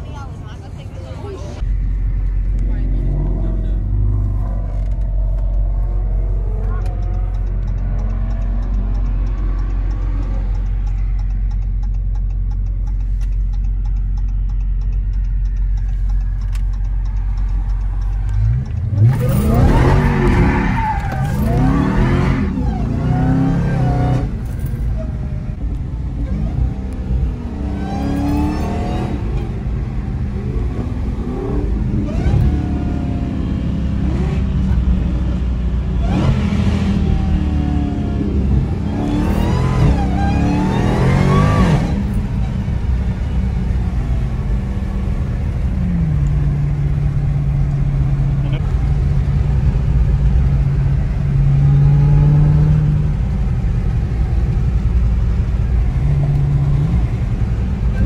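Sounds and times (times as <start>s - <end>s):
car engine revving: 1.6s - 58.0s.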